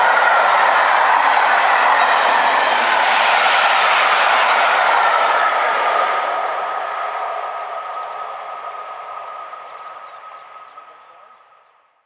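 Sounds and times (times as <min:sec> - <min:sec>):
train coaches rushing past: 0:00.0 - 0:11.6.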